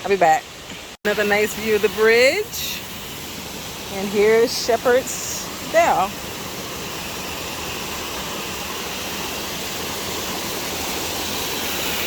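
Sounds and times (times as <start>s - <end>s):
waterfall rushing: 1.1s - 12.0s.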